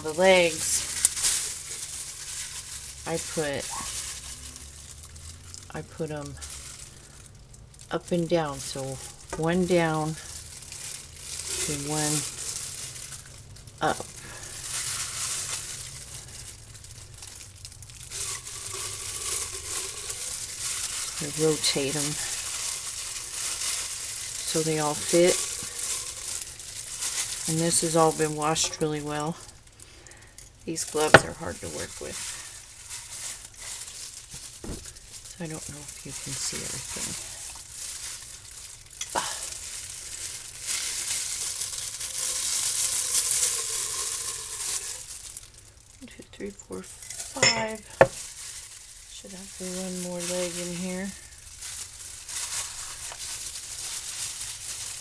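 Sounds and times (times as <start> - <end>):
plastic gloves crinkling: 0.0 - 55.0.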